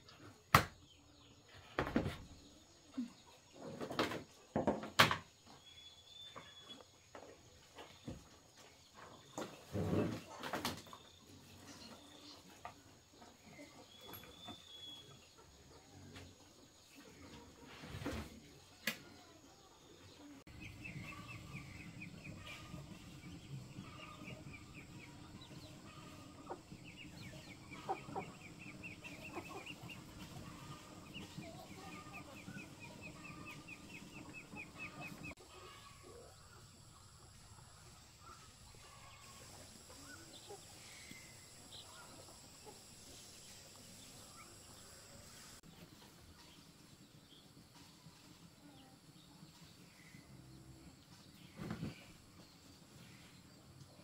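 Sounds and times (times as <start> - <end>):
chickens clucking: 6.3 - 54.0.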